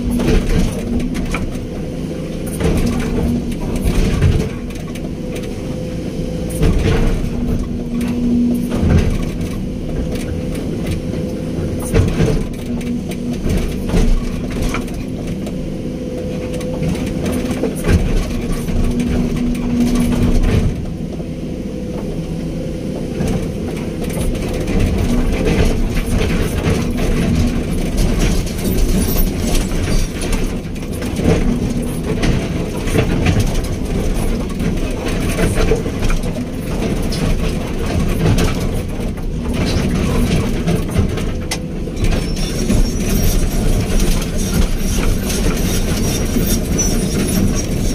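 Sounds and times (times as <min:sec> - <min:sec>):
excavator diesel engine: 0:00.0 - 0:47.9.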